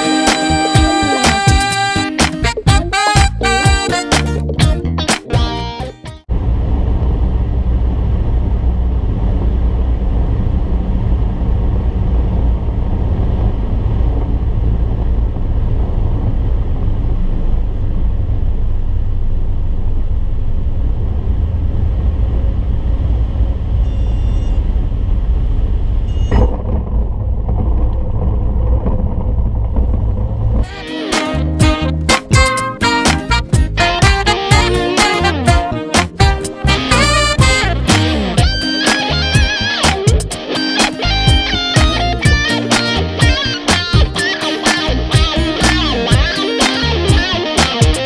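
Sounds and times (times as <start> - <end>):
propeller plane engine drone: 6.2 - 48.0.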